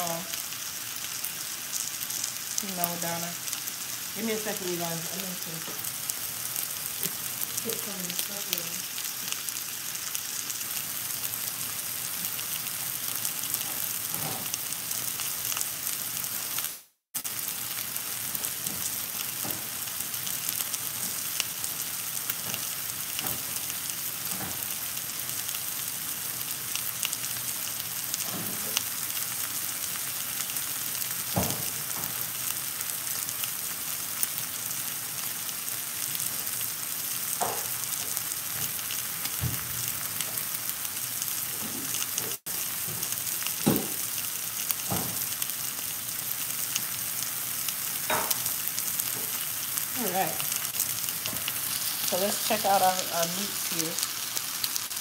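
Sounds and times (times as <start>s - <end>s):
meat sizzling in frying pans: 0.0s - 55.0s.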